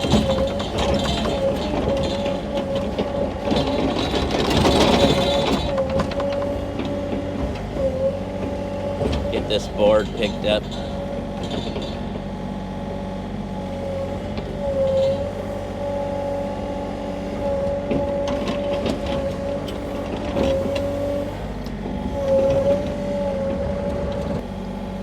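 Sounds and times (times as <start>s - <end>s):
diesel engine running: 0.0s - 25.0s
hydraulic whine: 0.0s - 25.0s.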